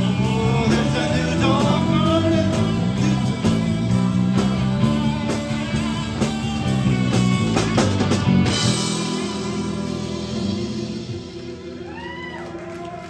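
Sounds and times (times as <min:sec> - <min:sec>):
rock drum beat: 0:00.0 - 0:11.8
electric guitars and bass: 0:00.0 - 0:13.0.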